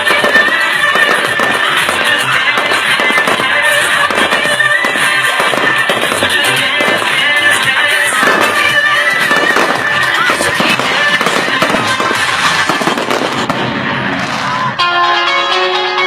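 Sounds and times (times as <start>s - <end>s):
fireworks crackling and popping: 0.0s - 14.8s
music playing: 0.0s - 16.0s.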